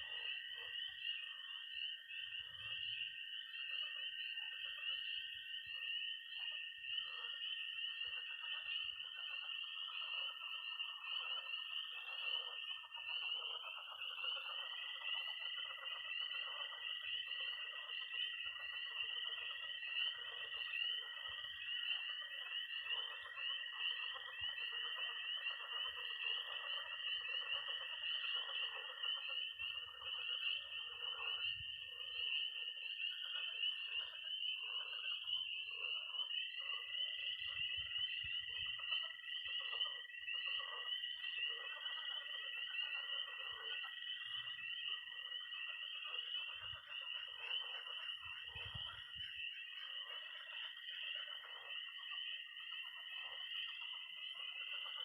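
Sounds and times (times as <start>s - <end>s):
frogs croaking: 0.0s - 55.0s
high-pitched toad trill: 0.0s - 55.0s
tree frogs peeping: 0.0s - 55.0s.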